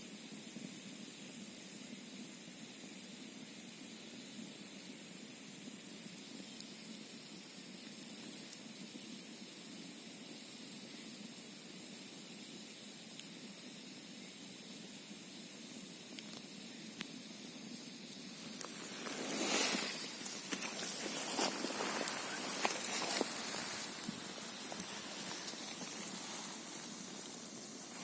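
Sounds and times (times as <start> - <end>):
campfire hissing: 0.0 - 28.0
fire crackles: 0.0 - 28.0.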